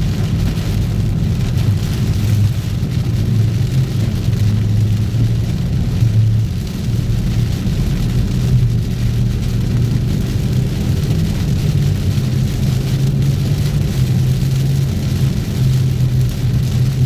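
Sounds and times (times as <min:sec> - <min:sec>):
engine and road drone: 0:00.0 - 0:17.0
hiss of heavy rain: 0:00.0 - 0:17.0.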